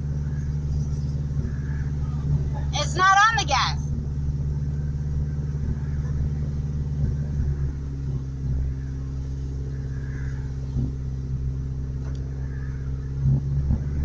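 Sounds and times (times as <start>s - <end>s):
unmuffled truck engine idling: 0.0s - 14.0s.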